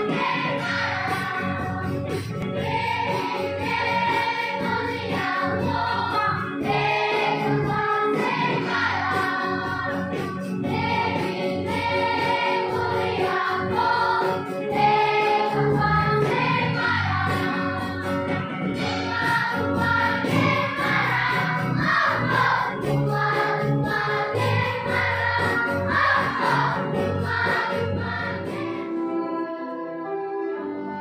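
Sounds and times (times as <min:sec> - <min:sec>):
drum kit beat: 0:00.0 - 0:28.8
song leaders on microphones: 0:00.0 - 0:29.4
children's choir singing: 0:00.0 - 0:30.2.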